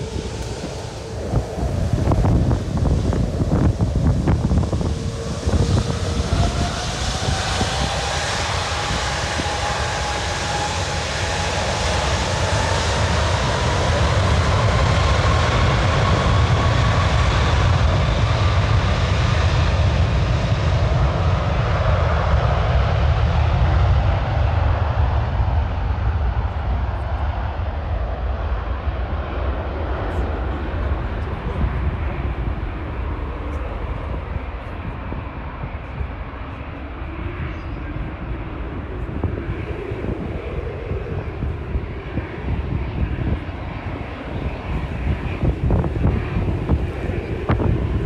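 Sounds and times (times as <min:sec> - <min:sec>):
jet engines roaring: 0:00.0 - 0:48.0
wind on microphone: 0:00.0 - 0:48.0.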